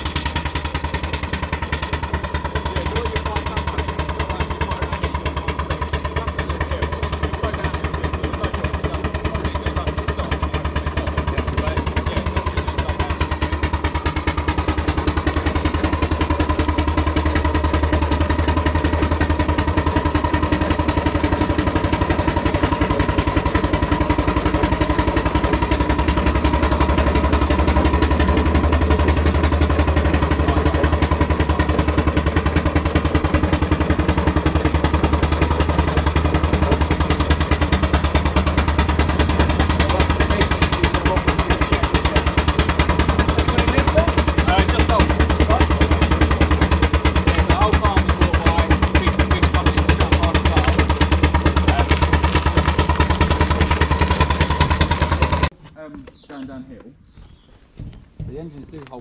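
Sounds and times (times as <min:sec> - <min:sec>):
steam engine rapid beat: 0:00.0 - 0:55.5
wheels rumbling over concrete: 0:00.0 - 0:59.0.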